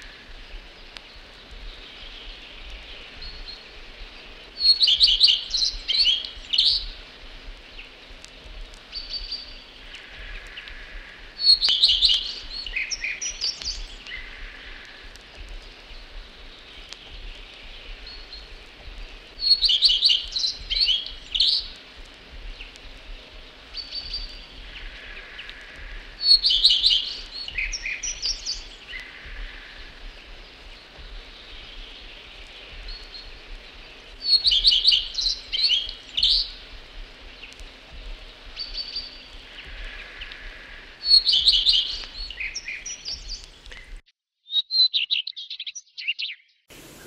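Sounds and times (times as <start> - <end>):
bird singing twittering phrases: 0.0 - 47.0.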